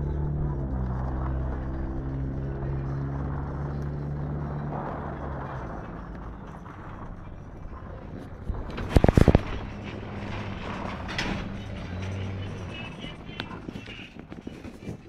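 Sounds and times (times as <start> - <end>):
rushing outdoor noise: 0.0 - 15.0
vehicle engine humming: 0.0 - 15.0.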